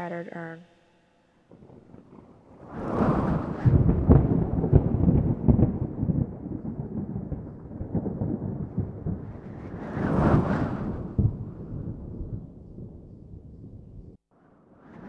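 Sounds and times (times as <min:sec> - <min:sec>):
thunder rumbling and crackling: 0:01.5 - 0:15.0.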